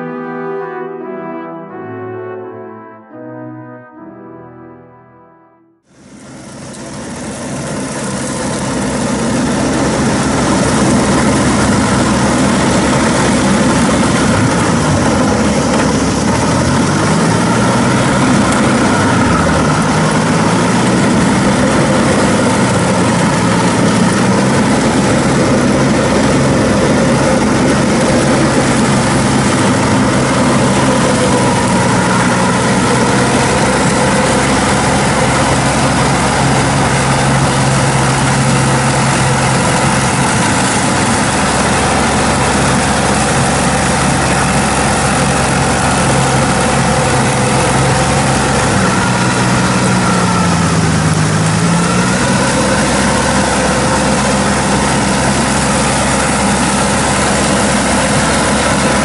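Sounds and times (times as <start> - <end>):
mower engine running hard: 5.8 - 59.0.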